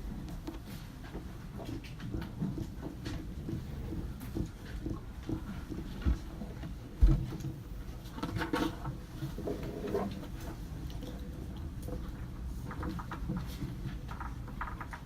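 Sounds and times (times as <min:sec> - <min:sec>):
small clicks and rustles: 0:00.0 - 0:15.0.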